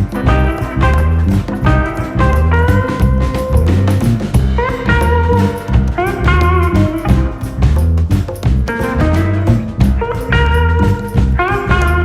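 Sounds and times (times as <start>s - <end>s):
blues instrumental music: 0.0s - 12.0s.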